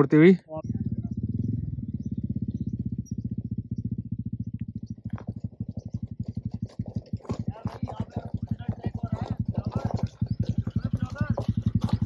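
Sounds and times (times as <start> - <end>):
motorcycle engine running at low revs: 0.4 - 12.0.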